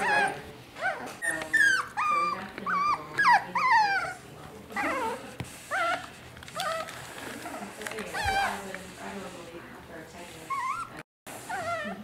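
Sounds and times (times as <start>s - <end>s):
puppies whining and squealing: 0.0s - 8.6s, 10.4s - 12.0s.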